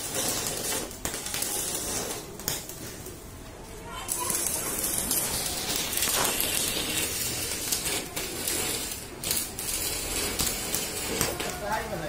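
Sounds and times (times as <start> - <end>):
welding arc crackling hiss: 0.0 - 12.0.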